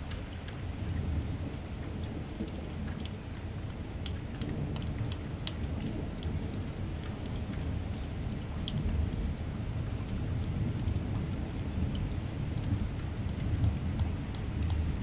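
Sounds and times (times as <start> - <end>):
rain falling: 0.0 - 15.0
raindrop ticks: 0.0 - 15.0.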